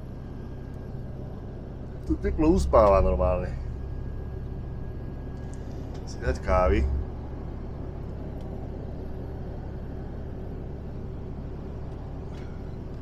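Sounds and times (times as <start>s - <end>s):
road noise: 0.0s - 13.0s
truck engine droning: 0.0s - 13.0s.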